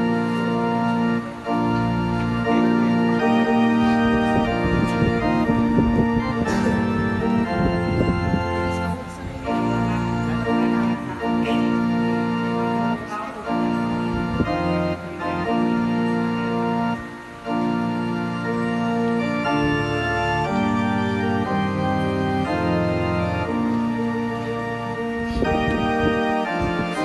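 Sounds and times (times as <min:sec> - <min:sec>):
organ playing slow chords: 0:00.0 - 0:27.0.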